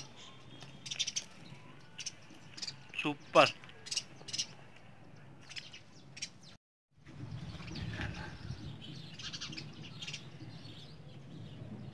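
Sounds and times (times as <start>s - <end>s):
small birds chirping: 0.0s - 6.6s, 7.2s - 11.9s.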